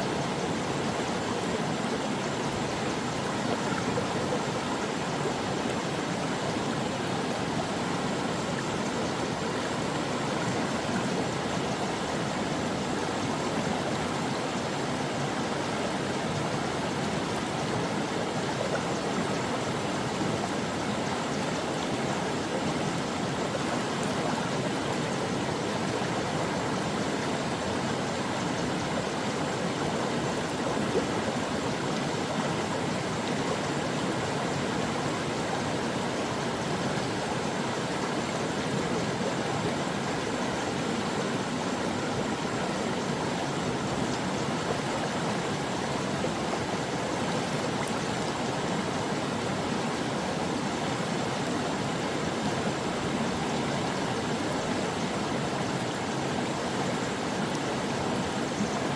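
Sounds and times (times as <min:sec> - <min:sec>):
brook running over stones: 0:00.1 - 0:58.9.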